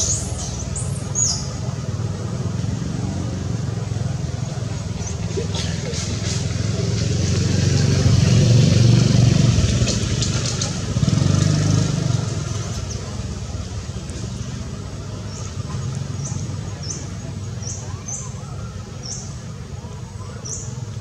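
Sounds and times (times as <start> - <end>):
motor vehicle engine running: 0.0 - 21.0.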